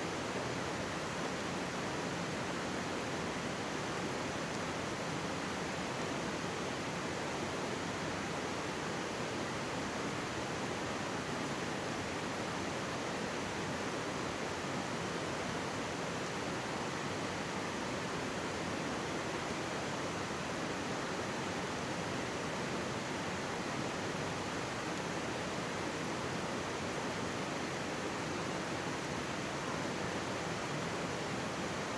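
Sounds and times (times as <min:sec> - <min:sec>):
mountain stream flowing: 0:00.0 - 0:31.9.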